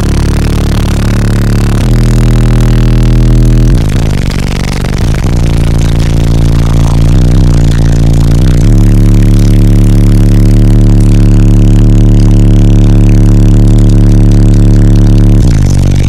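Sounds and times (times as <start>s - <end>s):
loud deep bass from subwoofers: 0.0s - 16.0s.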